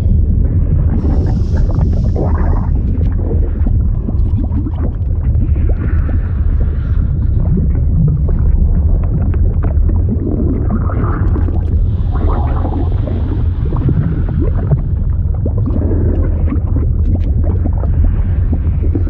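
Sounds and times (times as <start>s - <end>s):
deep liquid rumble: 0.0s - 19.0s.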